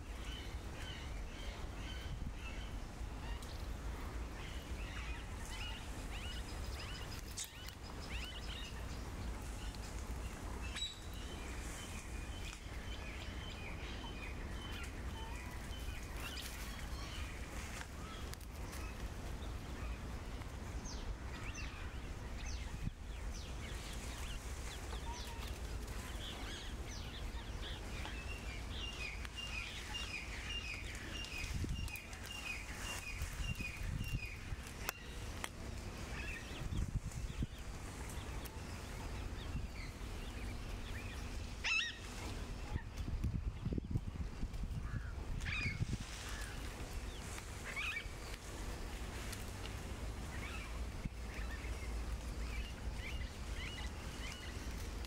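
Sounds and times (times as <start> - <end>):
low outdoor rumble: 0.0 - 55.0
small birds chirping: 0.0 - 55.0.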